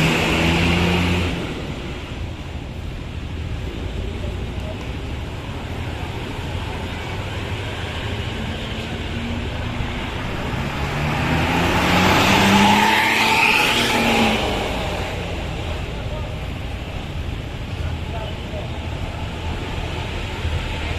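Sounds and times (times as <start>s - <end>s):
bus driving past: 0.0s - 20.9s.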